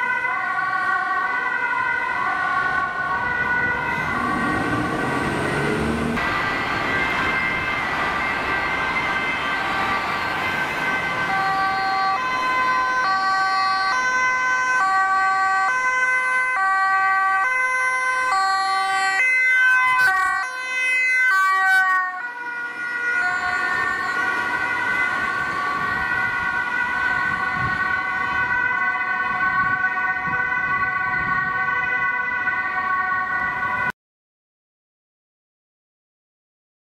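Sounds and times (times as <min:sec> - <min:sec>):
road noise: 0:00.0 - 0:33.9
two-tone ambulance sirens: 0:00.0 - 0:34.0.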